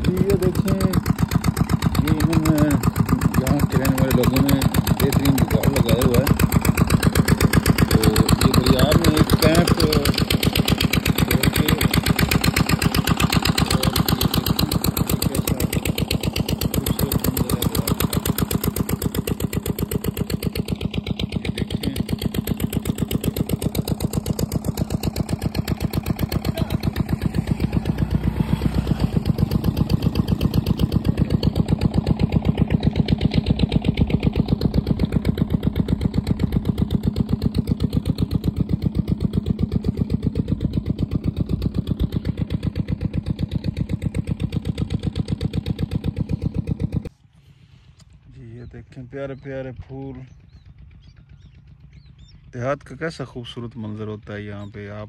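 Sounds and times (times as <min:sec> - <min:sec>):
water pump engine chugging: 0:00.0 - 0:55.0.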